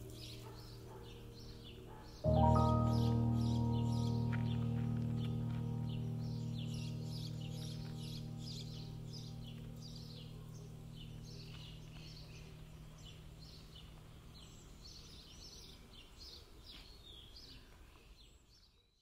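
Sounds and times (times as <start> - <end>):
low held music chord: 0.0 - 15.6
small birds chirping: 0.0 - 19.0.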